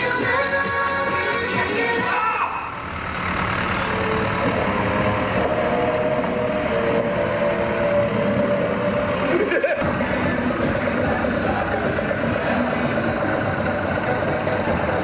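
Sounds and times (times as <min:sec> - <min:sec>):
music playing: 0:00.0 - 0:02.8, 0:03.8 - 0:15.0
tractor diesel engine running: 0:00.0 - 0:15.0.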